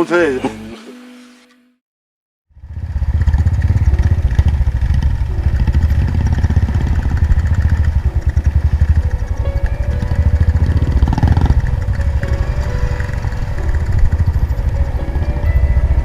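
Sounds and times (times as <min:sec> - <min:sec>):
motorcycle engine running: 0:02.6 - 0:16.0.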